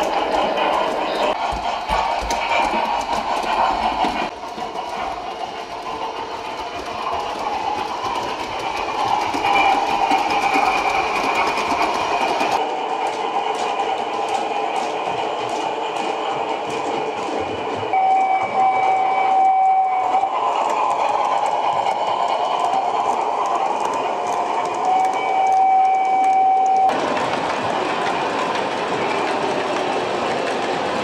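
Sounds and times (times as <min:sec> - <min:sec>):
wheels ticking over rail joints: 0:00.0 - 0:31.0.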